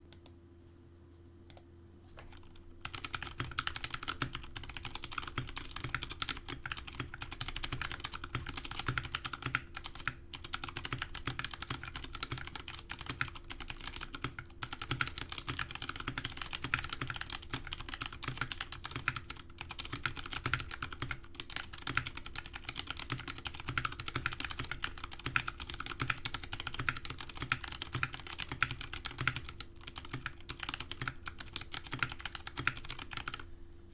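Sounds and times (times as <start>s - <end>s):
fast typing on mechanical keyboard: 2.3s - 33.4s.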